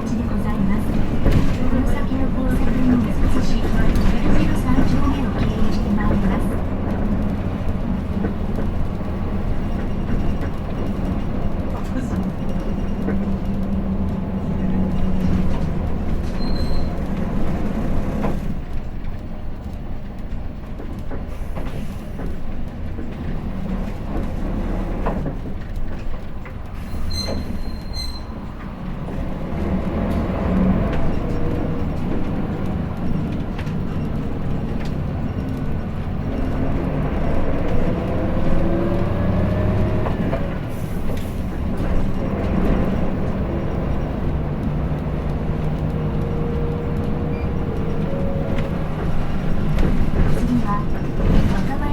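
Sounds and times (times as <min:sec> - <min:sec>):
bus engine rumble: 0:00.0 - 0:51.9.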